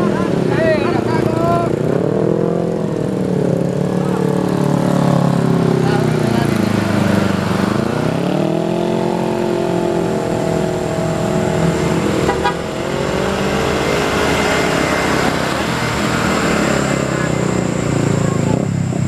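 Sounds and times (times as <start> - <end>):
passing road traffic: 0.0 - 19.0
truck engine revving: 0.0 - 19.0.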